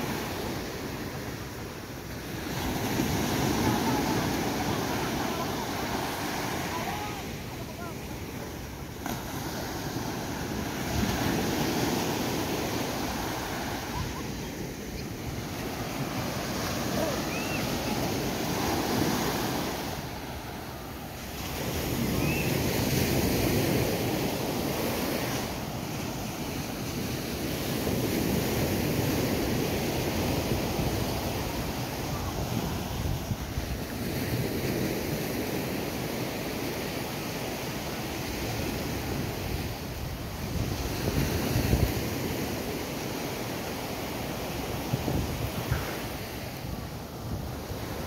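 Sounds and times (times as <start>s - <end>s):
waves washing onto beach: 0.0s - 48.0s.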